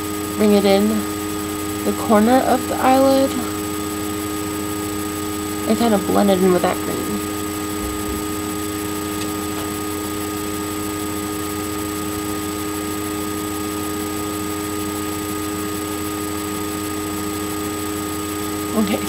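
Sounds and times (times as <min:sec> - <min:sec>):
constant whining tones: 0:00.0 - 0:19.0
steady hiss and hum: 0:00.0 - 0:19.0.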